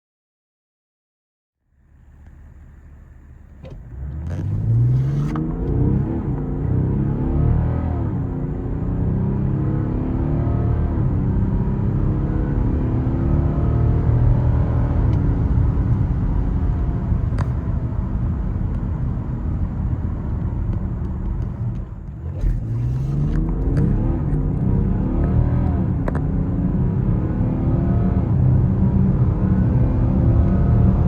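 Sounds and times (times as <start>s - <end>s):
diesel engine accelerating hard: 1.7s - 31.0s.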